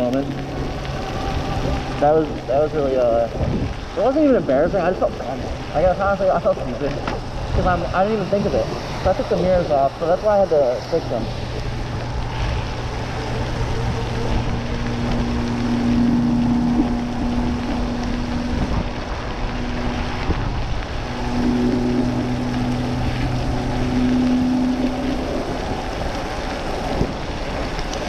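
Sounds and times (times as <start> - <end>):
tyres on wet road: 0.0 - 28.0
wind rushing: 0.0 - 28.0.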